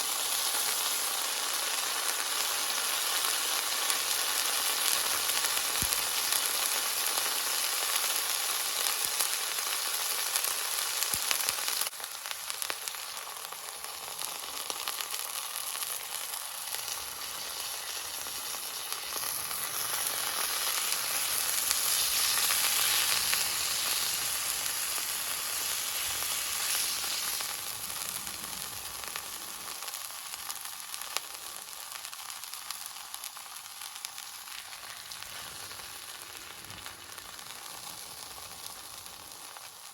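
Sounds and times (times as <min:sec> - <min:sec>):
beef sizzling in a skillet: 0:00.0 - 0:39.9.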